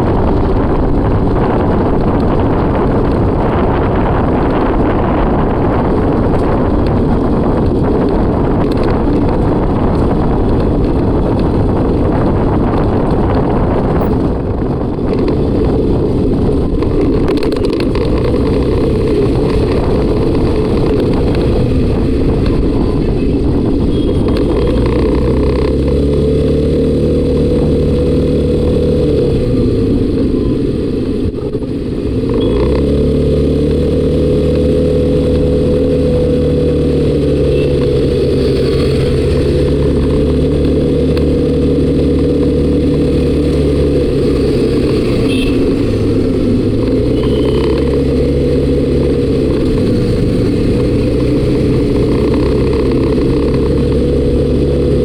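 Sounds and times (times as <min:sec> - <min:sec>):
scooter engine running: 0:00.0 - 0:55.0
wind rushing over microphone: 0:00.0 - 0:55.0.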